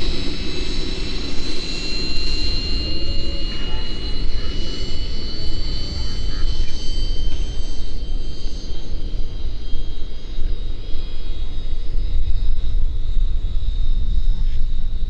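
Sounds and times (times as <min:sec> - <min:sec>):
electric ducted fan whine: 0:00.0 - 0:15.0
uneven low rumble: 0:00.0 - 0:15.0.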